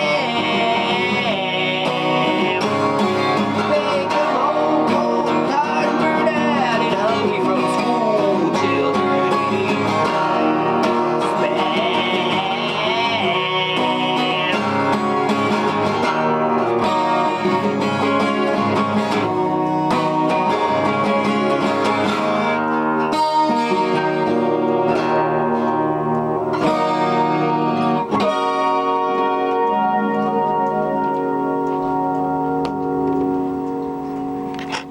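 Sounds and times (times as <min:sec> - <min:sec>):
country music with strummed guitar: 0:00.0 - 0:34.9.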